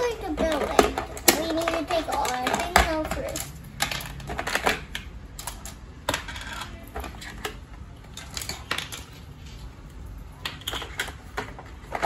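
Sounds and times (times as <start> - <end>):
plastic toy dishes clattering: 0.0 - 9.6, 10.4 - 12.0.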